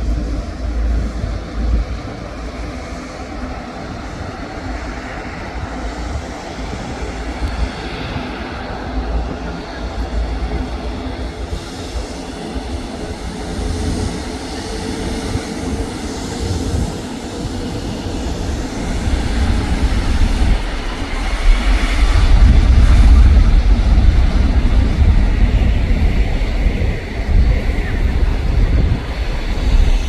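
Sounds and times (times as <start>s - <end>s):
jet airliner engine rumble: 0.0s - 30.0s
wind buffeting microphone: 0.0s - 30.0s.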